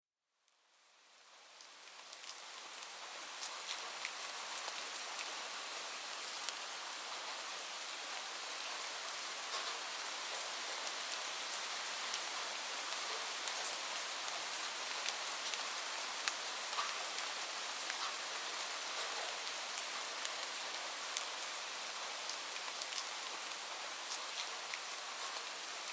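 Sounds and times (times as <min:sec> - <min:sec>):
raindrops ticking on a surface: 0:00.5 - 0:25.9
steady rain hissing: 0:00.5 - 0:25.9.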